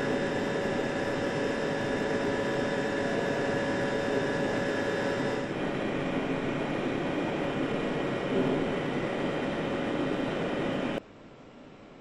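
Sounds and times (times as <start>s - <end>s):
petrol engine humming: 0.0s - 11.0s.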